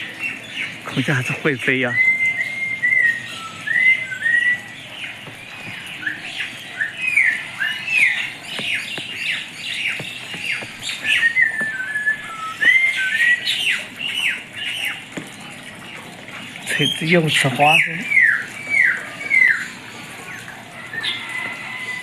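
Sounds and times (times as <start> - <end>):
birds chirping and whistling: 0.0 - 22.0.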